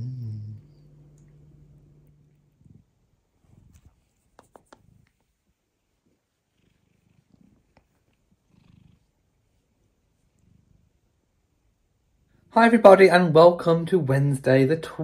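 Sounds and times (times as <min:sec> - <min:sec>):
cat purring: 0:00.0 - 0:12.5.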